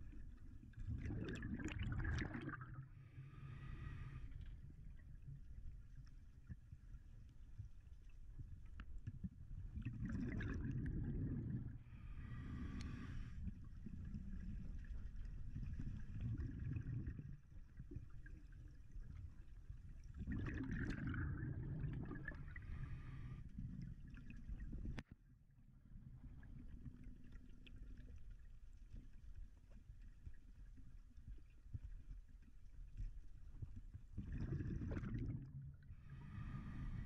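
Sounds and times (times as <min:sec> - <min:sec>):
exhaled bubbles gurgling underwater: 0:00.0 - 0:25.0, 0:25.7 - 0:37.0
low underwater rumble: 0:00.0 - 0:37.0.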